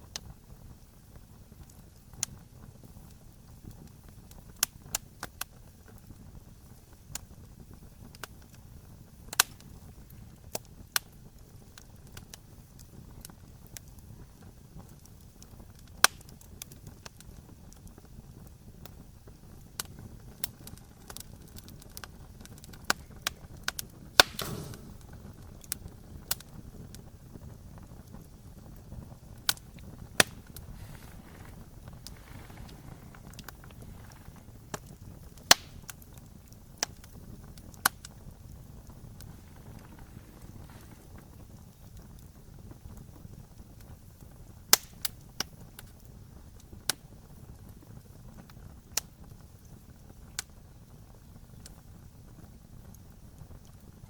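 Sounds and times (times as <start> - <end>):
burning wood popping and snapping: 0.0 - 54.0
low rumble of flame: 0.0 - 54.0.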